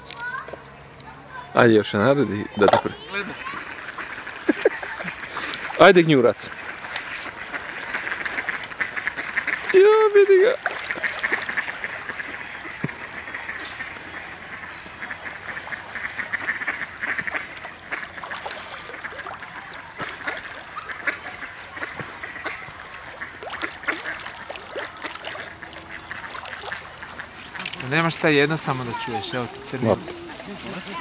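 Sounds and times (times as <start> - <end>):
ducks and geese calling: 2.5 - 31.0.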